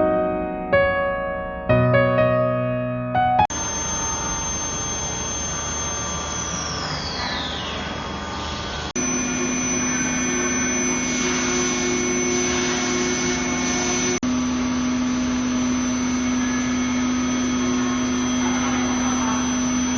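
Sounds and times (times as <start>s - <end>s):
machine tool whining: 3.5s - 19.9s.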